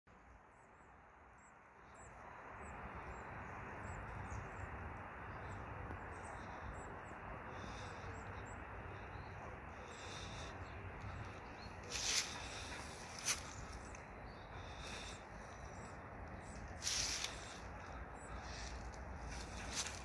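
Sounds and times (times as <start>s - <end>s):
rushing outdoor background: 0.1s - 20.0s
small birds chirping: 0.1s - 20.0s.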